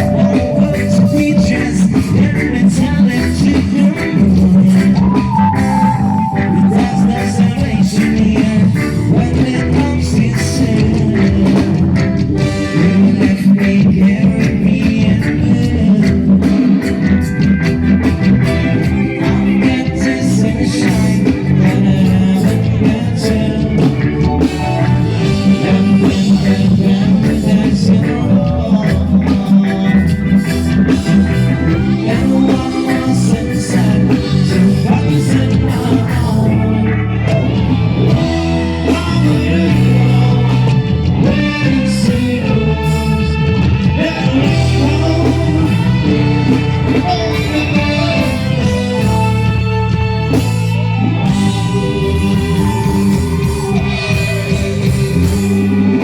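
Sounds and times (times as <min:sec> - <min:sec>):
person singing: 0:00.0 - 0:17.4, 0:18.0 - 0:56.0
bass guitar: 0:00.0 - 0:56.0
drums: 0:00.0 - 0:56.0
electric guitar: 0:00.0 - 0:56.0.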